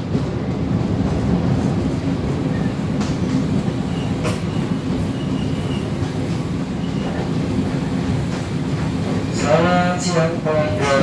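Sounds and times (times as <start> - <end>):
train rumbling over rails: 0.0 - 11.0.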